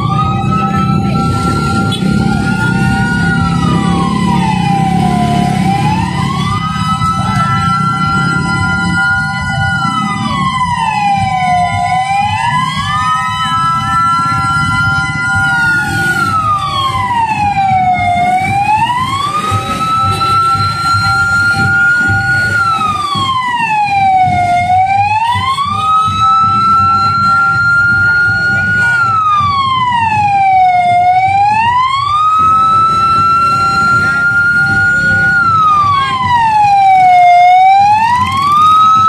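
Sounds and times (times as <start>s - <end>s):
siren wailing: 0.0s - 39.0s.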